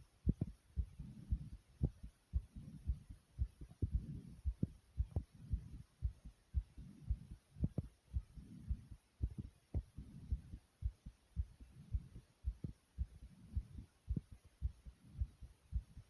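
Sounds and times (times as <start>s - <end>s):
fast heartbeat: 0.0s - 16.0s.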